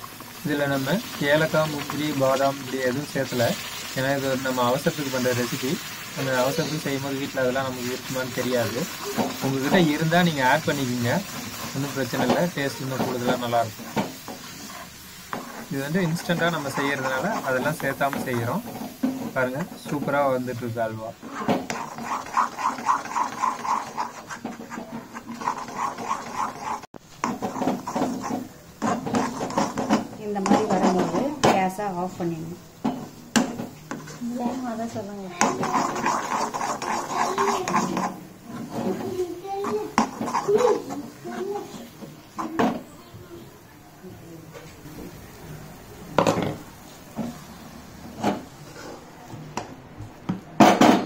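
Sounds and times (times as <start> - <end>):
spatula stirring and scraping pan: 0.0 - 43.0, 46.2 - 49.4.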